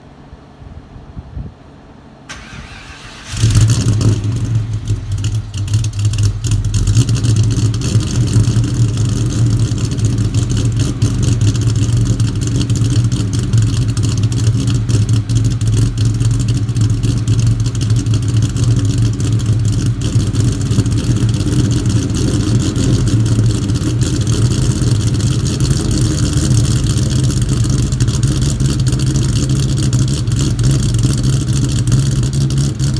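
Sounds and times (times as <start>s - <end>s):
car engine starting and idling: 2.3s - 32.9s.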